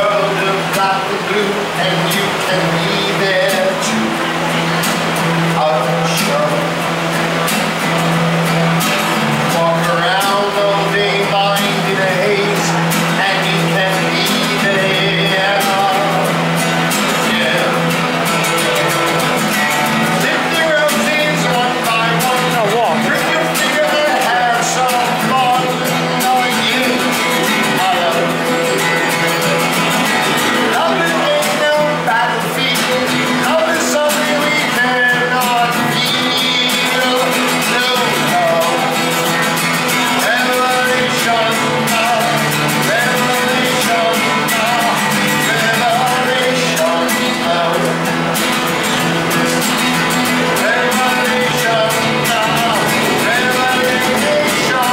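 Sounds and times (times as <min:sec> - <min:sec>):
acoustic guitar strummed and picked: 0:00.0 - 0:54.9.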